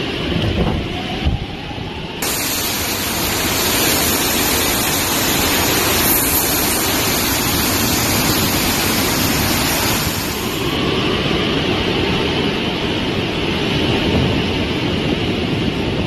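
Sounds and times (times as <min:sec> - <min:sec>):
driving rain: 0:00.0 - 0:16.0
strong wind: 0:00.0 - 0:16.0.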